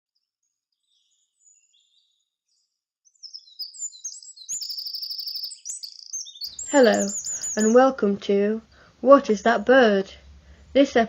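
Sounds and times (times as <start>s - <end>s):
wren singing: 0.8s - 10.8s.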